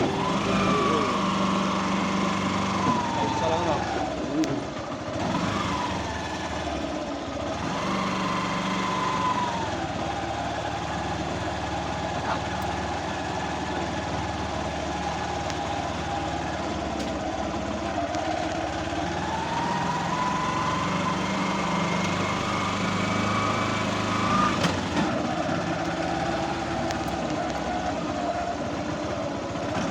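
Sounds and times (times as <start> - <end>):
vehicle engine whine: 0.0 - 29.9.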